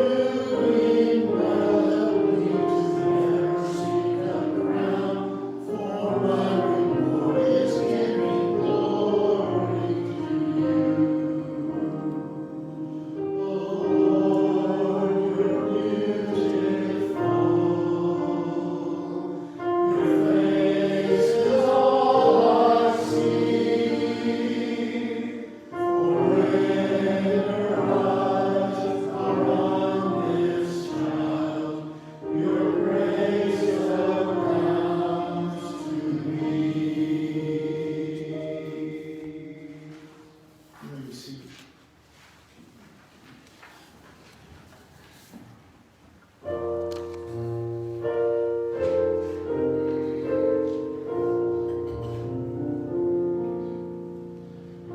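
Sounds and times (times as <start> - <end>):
choir singing sacred piece: 0.0 - 41.8, 46.4 - 54.9.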